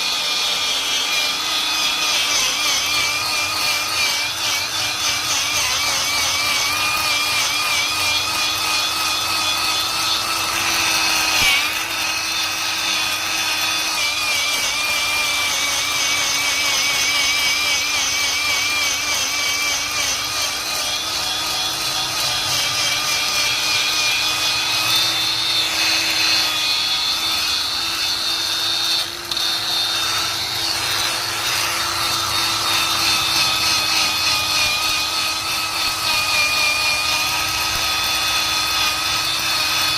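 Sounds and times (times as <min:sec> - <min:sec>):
power tool motor whine: 0:00.0 - 0:39.9
wheel scrubbing metal: 0:00.0 - 0:39.9.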